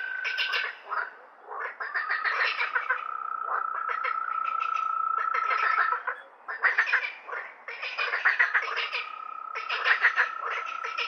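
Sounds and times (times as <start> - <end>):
frogs calling in rattling pulses: 0.0 - 11.0.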